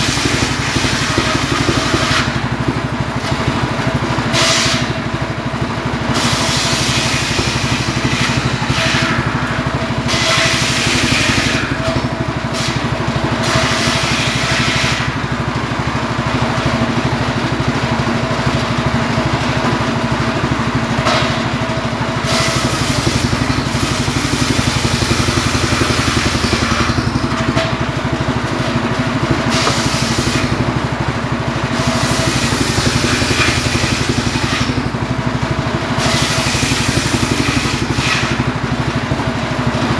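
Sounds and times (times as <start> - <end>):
circular saw cutting wood: 0.0 - 39.9
engine running: 0.0 - 39.9.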